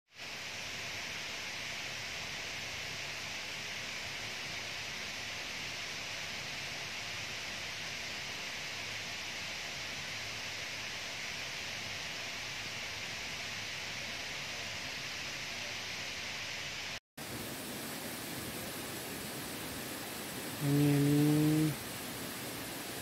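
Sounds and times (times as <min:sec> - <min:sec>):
steady hiss: 0:00.1 - 0:23.0.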